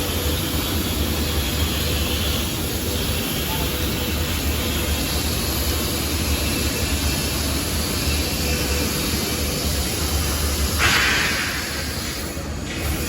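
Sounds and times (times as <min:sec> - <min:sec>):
laser cutting machine roaring: 0:00.0 - 0:13.0.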